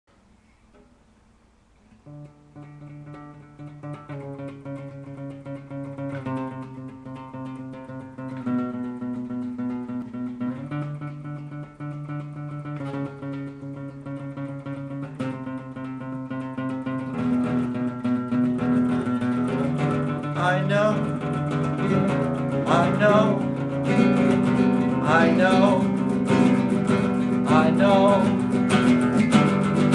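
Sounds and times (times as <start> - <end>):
acoustic guitar strumming: 0.7 - 29.9.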